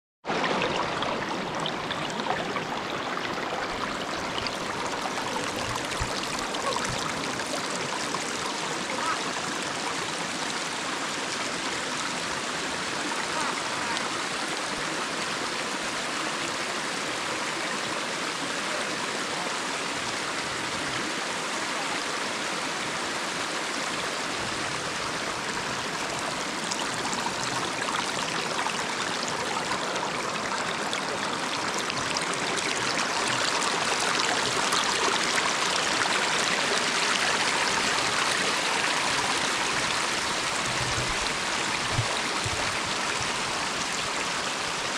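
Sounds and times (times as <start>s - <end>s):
stream splashing over stones: 0.2s - 44.9s.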